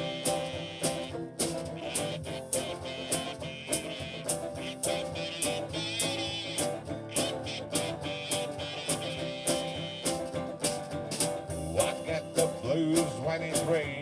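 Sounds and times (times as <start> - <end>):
blues guitar playing: 0.0 - 14.0
steady drum beat: 0.0 - 14.0.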